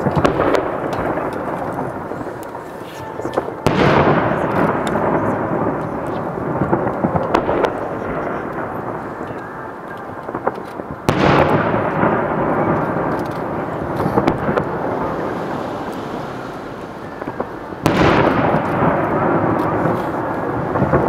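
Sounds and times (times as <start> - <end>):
firework shells booming: 0.0 - 2.6, 3.3 - 21.0
sharp firework pops: 0.0 - 2.6, 3.3 - 16.1, 17.2 - 21.0
rolling rumble: 0.0 - 21.0.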